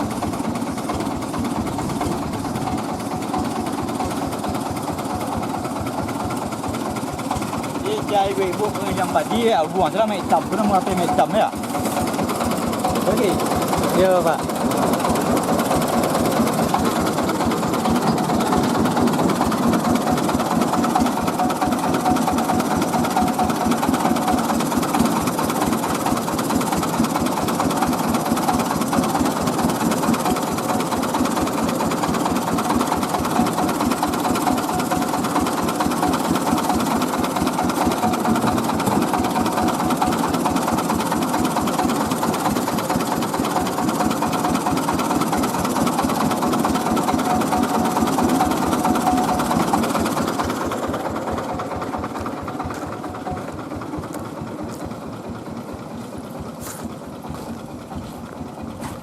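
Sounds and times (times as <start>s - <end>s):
rice-milling machine running: 0.0s - 59.0s.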